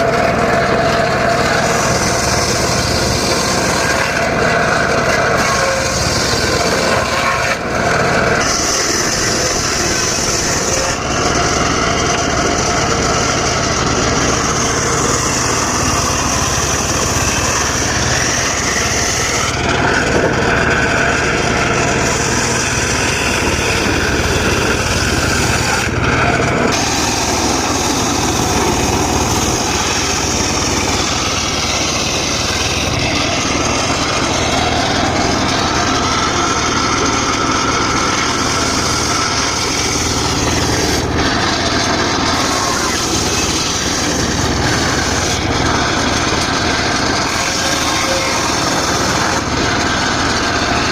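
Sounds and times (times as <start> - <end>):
circular saw whining: 0.0 - 50.9
motor hum: 0.0 - 50.9.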